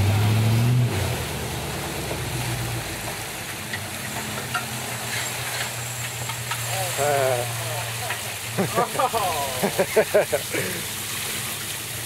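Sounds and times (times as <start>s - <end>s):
hiss of water and mud: 0.0s - 12.0s.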